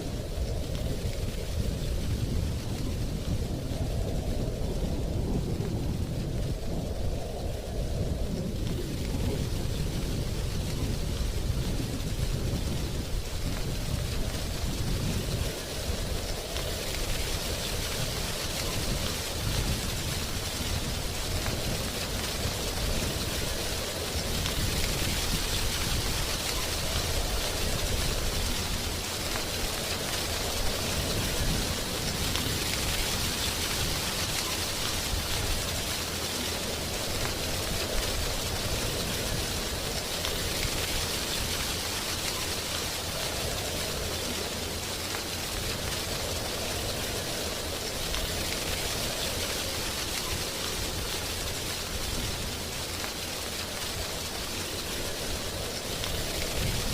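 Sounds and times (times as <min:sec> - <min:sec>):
low rumble of wind: 0:00.0 - 0:56.9
wind rustling dry leaves: 0:00.0 - 0:56.9.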